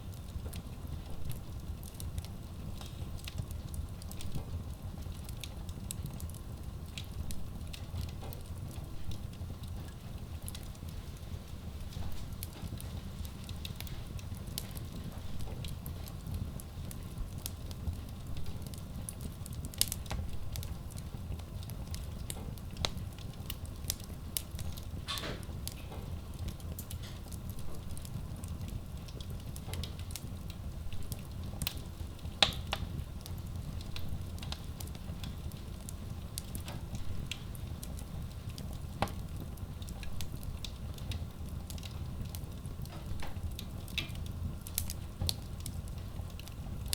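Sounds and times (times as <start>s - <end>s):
fire crackling and popping: 0.0s - 46.9s
wood fire burning: 0.0s - 46.9s.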